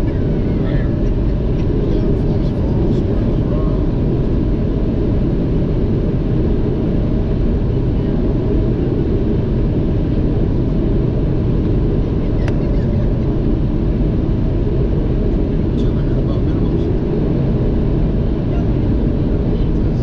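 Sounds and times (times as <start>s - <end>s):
jet cockpit engine rumble: 0.0s - 20.0s.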